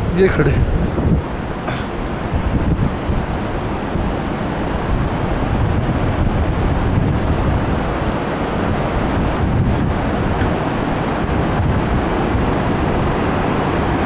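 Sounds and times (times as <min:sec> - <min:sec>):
fast river flowing: 0:00.0 - 0:14.0
wind buffeting microphone: 0:00.0 - 0:14.0.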